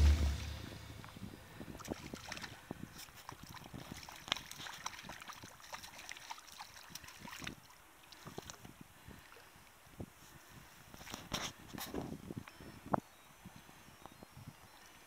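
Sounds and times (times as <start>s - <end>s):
light wind: 0.0s - 15.0s.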